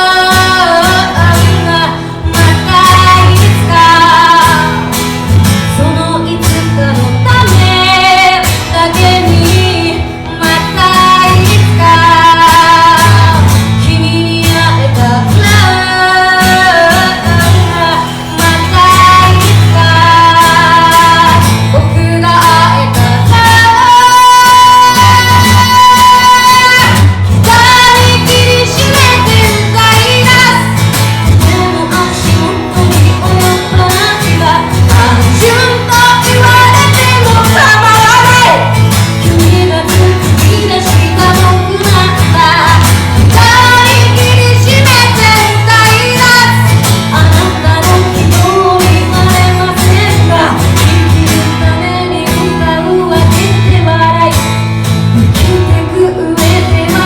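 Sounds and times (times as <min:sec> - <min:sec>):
guitar playing: 0:00.0 - 0:57.0
woman singing: 0:00.0 - 0:57.0.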